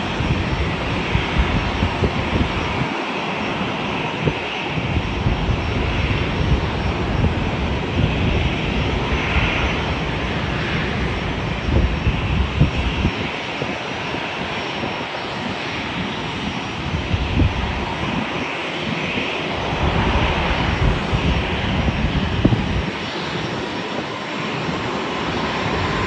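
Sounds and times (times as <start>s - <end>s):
jet airliner engines rumbling: 0.0s - 26.0s.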